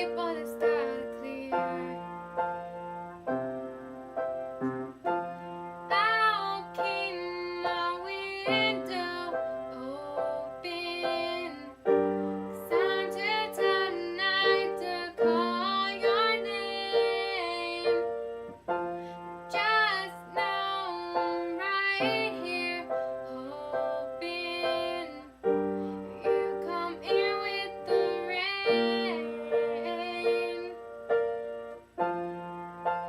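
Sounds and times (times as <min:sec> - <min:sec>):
woman singing: 0:00.0 - 0:02.5, 0:05.9 - 0:18.3, 0:19.4 - 0:31.4
piano accompaniment: 0:00.0 - 0:33.0.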